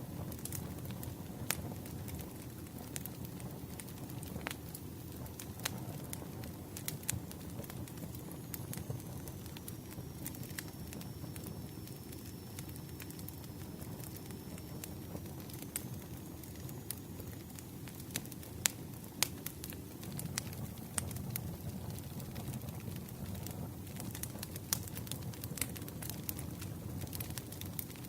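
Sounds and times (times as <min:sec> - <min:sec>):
campfire crackling: 0:00.0 - 0:28.0
fire pops and snaps: 0:00.2 - 0:28.0.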